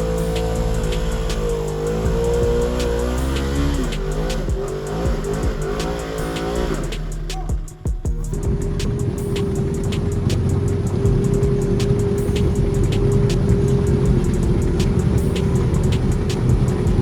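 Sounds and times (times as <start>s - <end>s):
utility vehicle engine revving: 0.0s - 7.5s, 8.4s - 17.0s
music playing: 0.0s - 17.0s.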